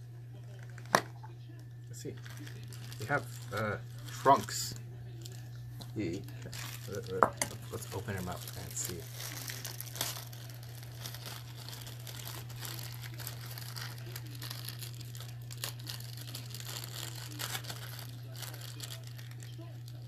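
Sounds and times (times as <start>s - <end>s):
steady low hum: 0.0s - 20.0s
plastic bag crinkling: 0.4s - 20.0s.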